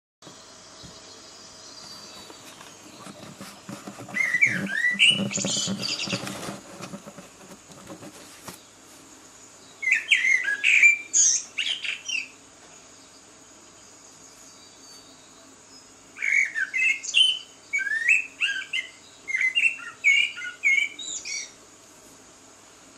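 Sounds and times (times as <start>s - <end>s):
songbird singing: 0.2s - 7.2s, 8.1s - 21.6s.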